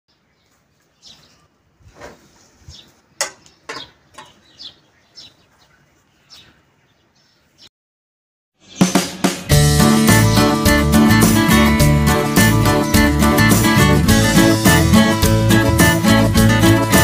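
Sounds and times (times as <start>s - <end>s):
birds chirping: 0.1s - 7.7s, 8.6s - 17.0s.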